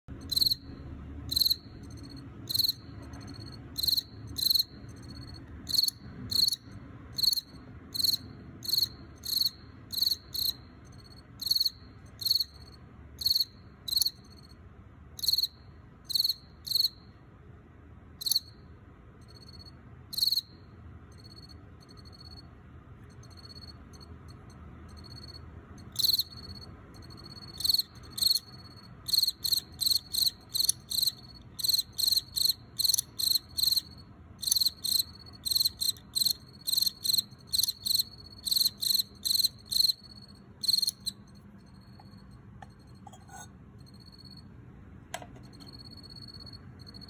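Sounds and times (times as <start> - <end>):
faint short cricket chirps: 0.1 - 17.2, 18.1 - 47.0
loud shrill cricket chirps: 0.1 - 17.2, 18.2 - 44.6, 45.4 - 47.0.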